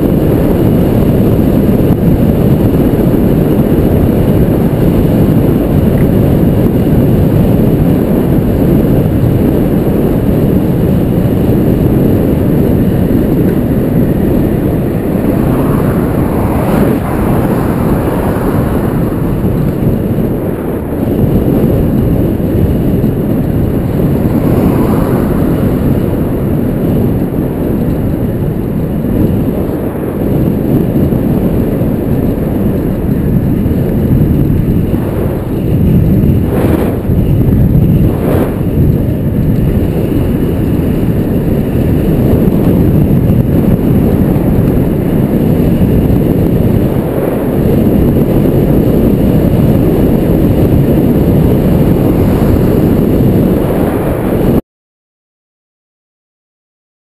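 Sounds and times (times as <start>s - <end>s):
wind buffeting microphone: 0.0s - 54.6s.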